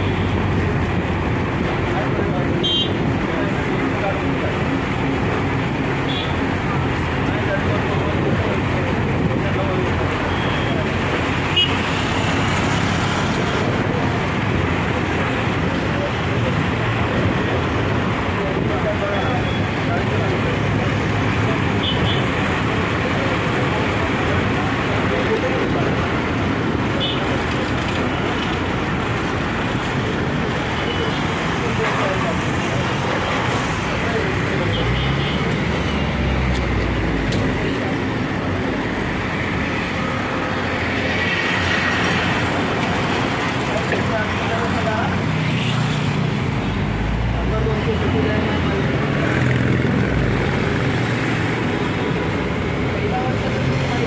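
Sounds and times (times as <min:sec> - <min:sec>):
city road traffic rumble: 0:00.0 - 0:54.0.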